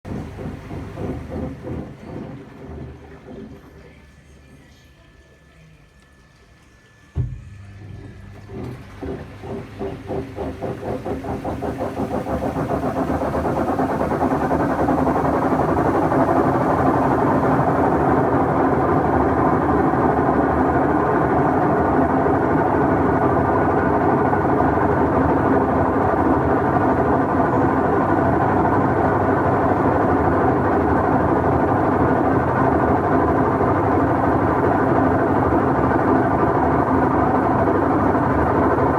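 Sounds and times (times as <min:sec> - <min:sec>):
washing machine knocking and running: 0:00.0 - 0:04.7, 0:07.2 - 0:38.9.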